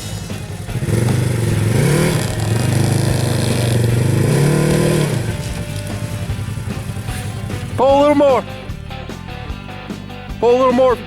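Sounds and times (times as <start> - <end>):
utv engine running under load: 0.0 - 10.4.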